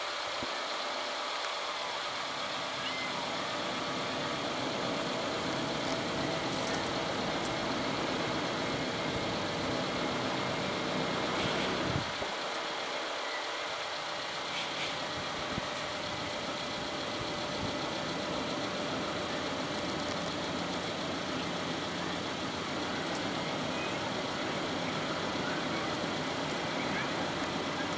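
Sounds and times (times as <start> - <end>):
steady mechanical hum: 0.0 - 27.9.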